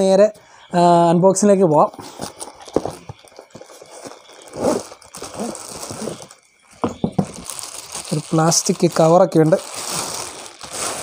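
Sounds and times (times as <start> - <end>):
plastic wrapping rustling: 1.8 - 11.0.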